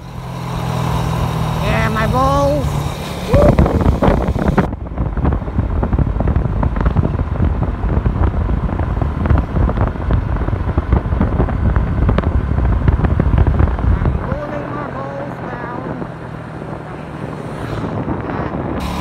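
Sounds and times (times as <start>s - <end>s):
motorcycle engine: 0.0s - 19.0s
wind buffeting microphone: 0.0s - 19.0s.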